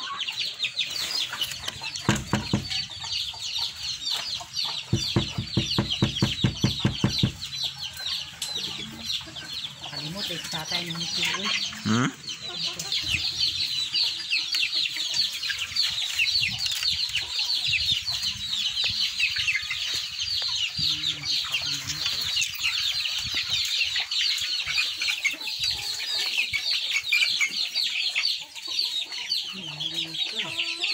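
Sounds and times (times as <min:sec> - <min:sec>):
chickens clucking: 0:00.0 - 0:30.9
chicks peeping: 0:00.0 - 0:30.9.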